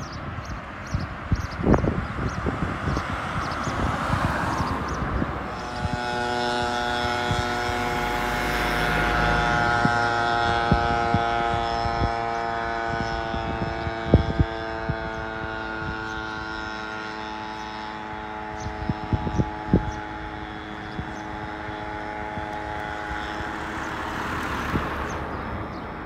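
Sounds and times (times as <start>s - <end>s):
steady engine drone: 0.0s - 26.0s.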